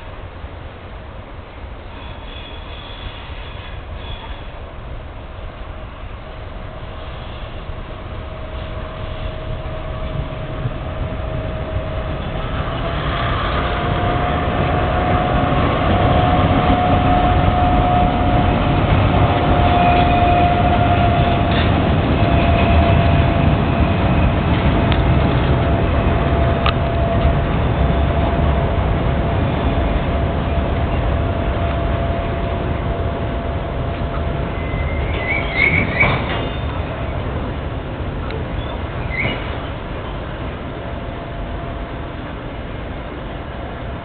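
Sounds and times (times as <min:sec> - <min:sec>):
freight train rumble: 0:00.0 - 0:44.0
steady high whine: 0:03.7 - 0:44.0.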